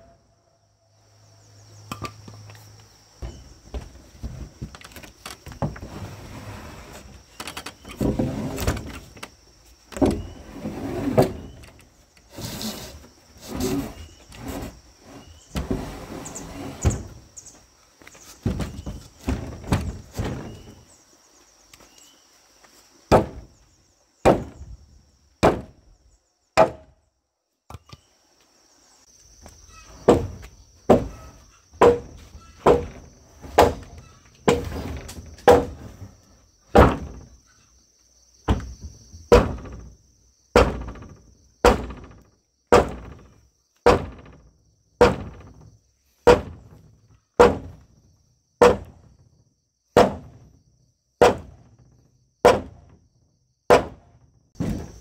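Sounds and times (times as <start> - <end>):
insects buzzing: 0.0 - 27.2, 27.8 - 55.0.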